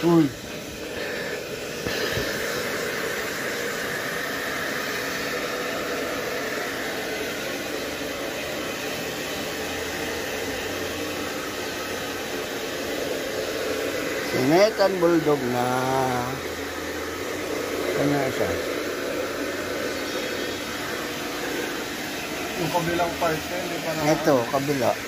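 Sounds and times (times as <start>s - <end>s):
hair dryer blowing: 0.0s - 25.0s.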